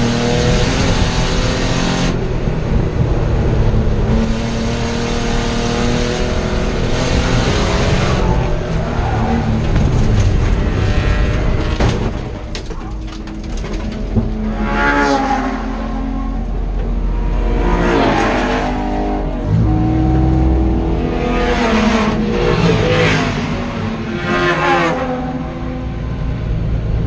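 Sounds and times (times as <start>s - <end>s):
race car engine revving: 0.0s - 12.4s, 14.2s - 26.0s.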